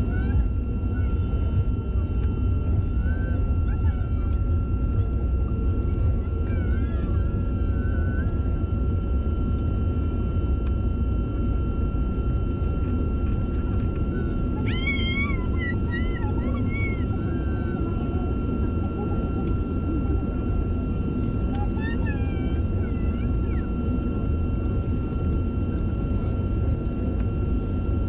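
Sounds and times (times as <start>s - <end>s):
high engine whine: 0.0s - 28.0s
jet engines and wheels rumbling: 0.0s - 28.0s.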